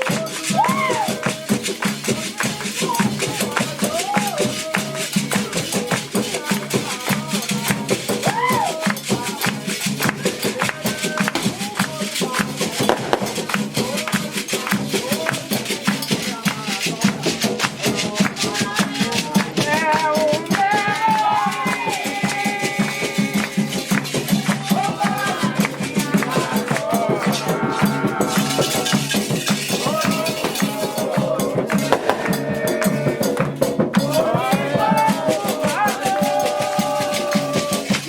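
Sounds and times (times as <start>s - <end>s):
hand drums beating: 0.0s - 38.0s
rattle shaking: 0.0s - 38.0s
voices singing a chant: 0.0s - 38.0s.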